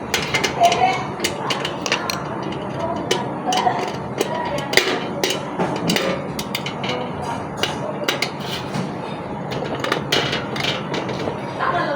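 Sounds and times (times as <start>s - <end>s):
clicks and knocks of handled parts: 0.0s - 11.5s.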